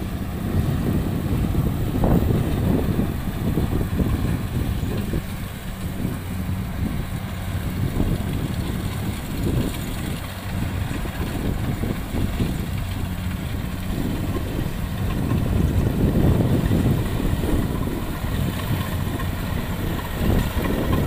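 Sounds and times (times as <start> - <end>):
combine harvester engines rumbling: 0.0 - 21.0.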